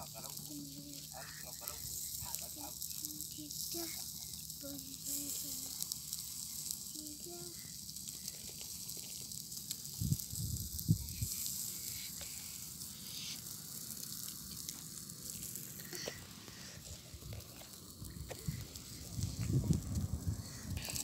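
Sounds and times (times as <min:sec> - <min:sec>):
chicken sizzling on grill: 0:00.0 - 0:21.0.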